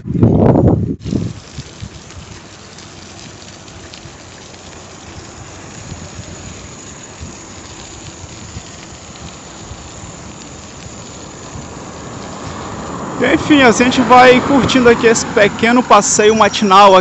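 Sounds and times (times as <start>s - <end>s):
bicycle tyres rolling on asphalt: 0.0s - 17.0s
wind buffeting microphone: 0.0s - 17.0s.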